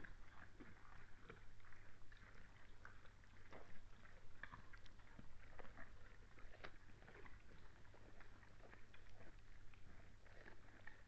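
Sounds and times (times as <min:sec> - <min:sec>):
deer crunching feed: 0:00.0 - 0:11.0.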